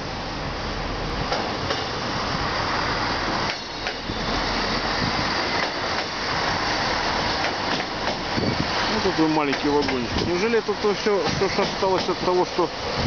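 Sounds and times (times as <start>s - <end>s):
diesel railcar passing: 0.0s - 13.0s.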